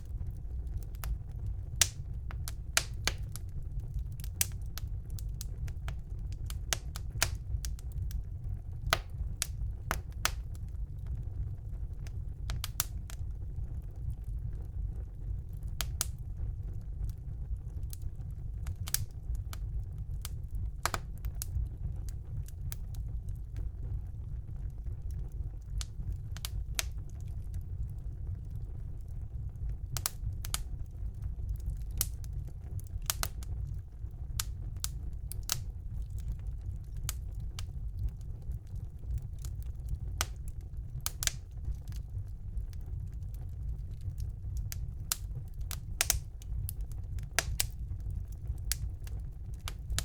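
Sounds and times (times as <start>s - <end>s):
fireplace fire crackling and popping: 0.0s - 50.0s.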